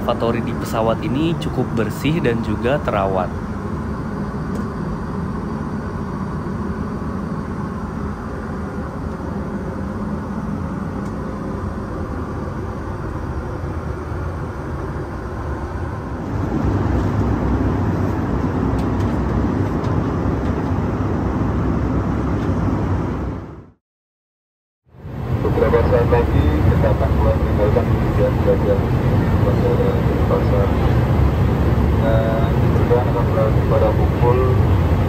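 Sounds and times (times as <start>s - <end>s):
airflow rush and engine drone: 0.0s - 23.8s, 24.9s - 35.0s.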